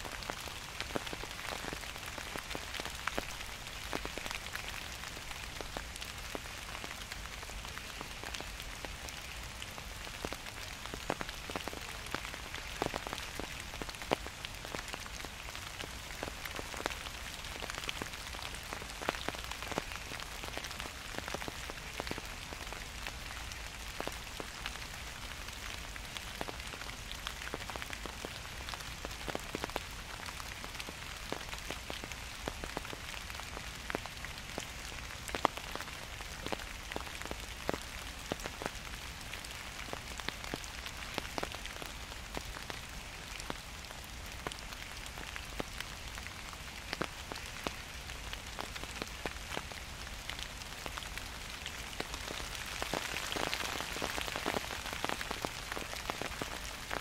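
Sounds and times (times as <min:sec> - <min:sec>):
gentle rain falling: 0:00.0 - 0:57.0.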